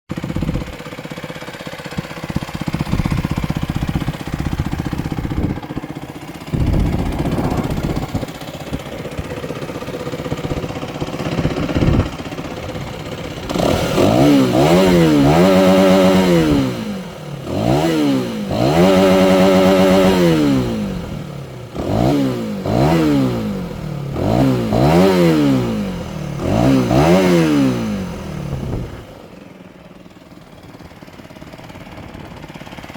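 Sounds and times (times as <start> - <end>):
motorcycle engine revving: 0.1 - 32.9.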